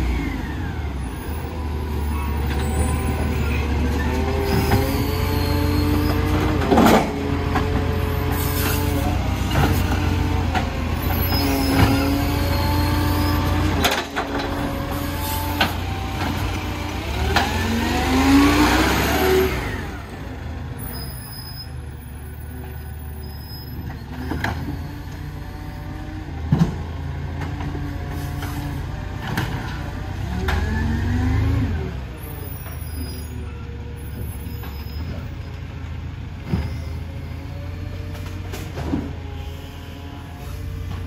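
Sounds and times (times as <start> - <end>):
garbage truck diesel engine: 0.0 - 41.0.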